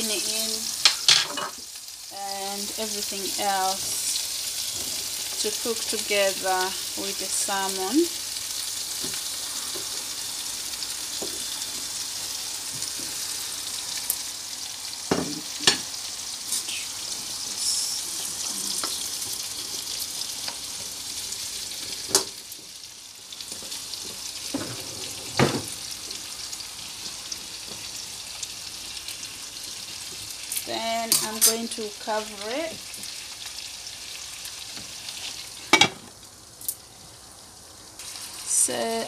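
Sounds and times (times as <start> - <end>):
food frying in pan: 0.0 - 39.0.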